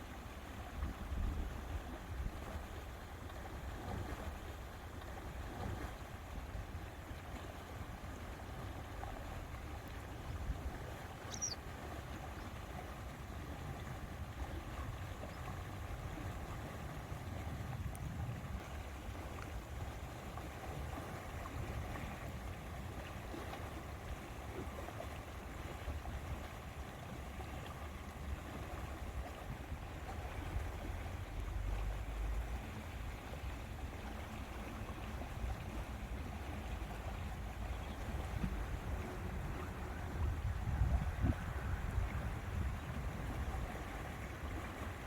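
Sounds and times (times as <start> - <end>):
steady wind: 0.0 - 45.0
water lapping at shore: 0.0 - 45.0
wind rumble on microphone: 0.0 - 45.0.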